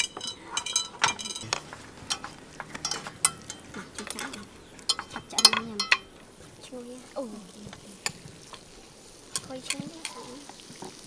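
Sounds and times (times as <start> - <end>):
chopsticks tapping on grill pan: 0.0 - 6.3, 7.6 - 11.0.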